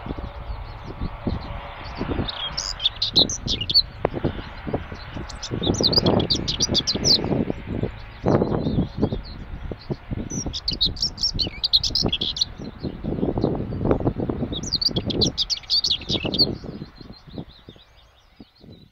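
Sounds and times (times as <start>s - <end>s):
low rumble: 0.0s - 15.4s
bird chirping: 0.0s - 18.9s.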